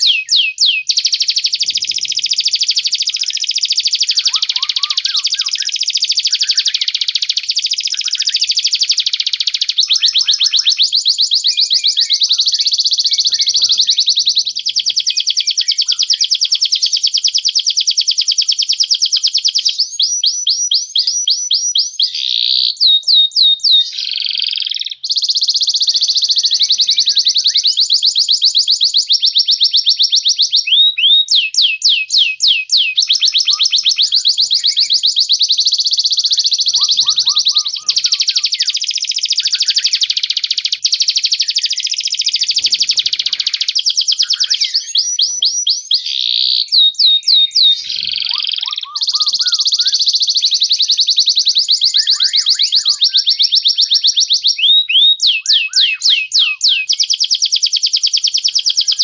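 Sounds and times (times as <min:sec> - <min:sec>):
songbirds trilling: 0:00.0 - 0:17.2, 0:21.0 - 0:29.1, 0:30.7 - 0:57.2, 0:57.9 - 0:59.0.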